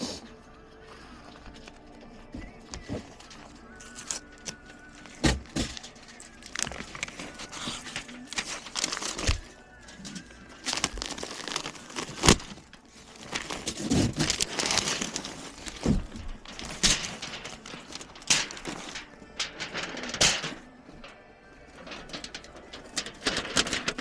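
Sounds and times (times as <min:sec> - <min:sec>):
scraping and rustling: 0:02.0 - 0:24.0.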